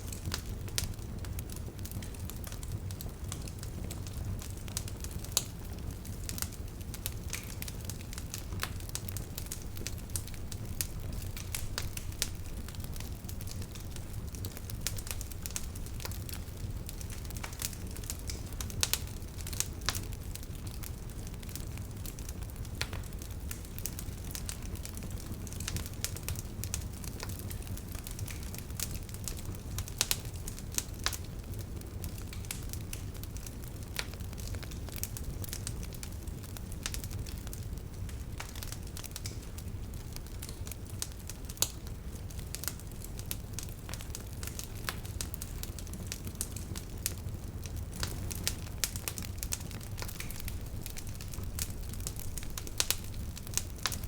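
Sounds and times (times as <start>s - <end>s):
low rumble of flames: 0.0s - 54.0s.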